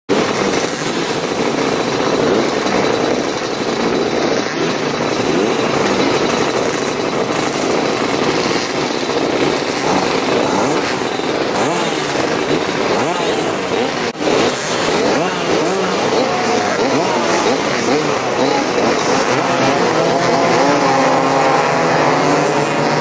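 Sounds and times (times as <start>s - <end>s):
racing scooter engines revving: 0.1s - 23.0s.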